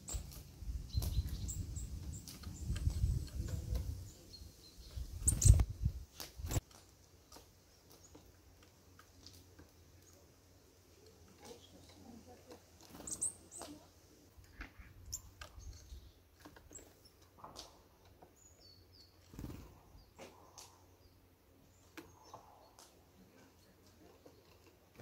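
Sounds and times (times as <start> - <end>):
birds pecking and scrabbling: 0.0 - 25.0.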